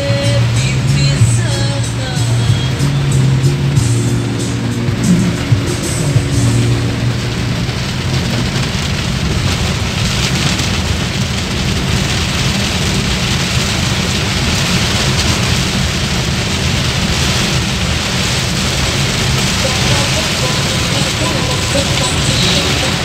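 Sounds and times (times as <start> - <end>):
car driving rumble: 0.0 - 23.0
heavy rain on car roof: 0.0 - 23.0.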